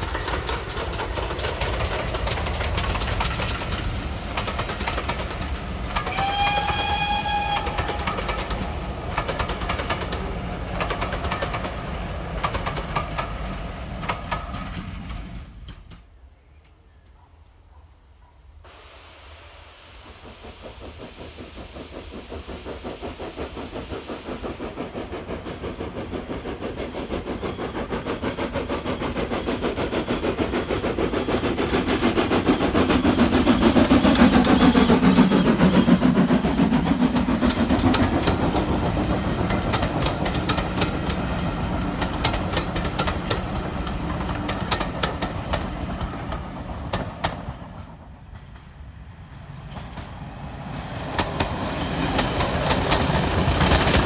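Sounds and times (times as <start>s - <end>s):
steam locomotive chuffing: 0.0s - 16.0s, 18.7s - 54.0s
train coaches clattering past: 0.0s - 16.8s, 19.7s - 54.0s
passenger train rumble: 0.0s - 54.0s.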